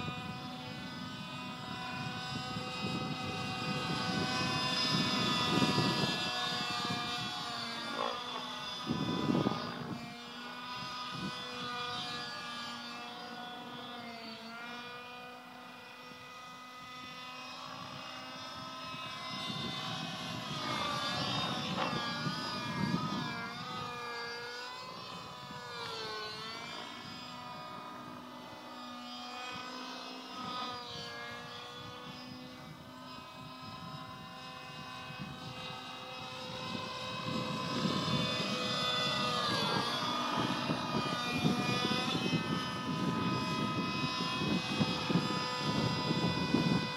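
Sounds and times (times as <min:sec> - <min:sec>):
model helicopter engine running: 0:00.0 - 0:46.9.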